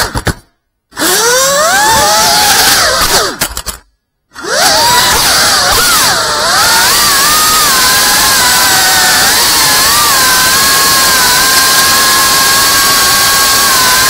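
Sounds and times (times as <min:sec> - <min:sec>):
drone propellers whining: 0:01.0 - 0:03.4, 0:04.4 - 0:14.0.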